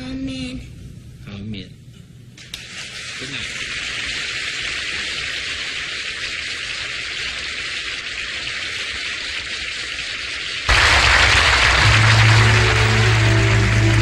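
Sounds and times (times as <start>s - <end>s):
steady hiss: 2.4s - 14.0s.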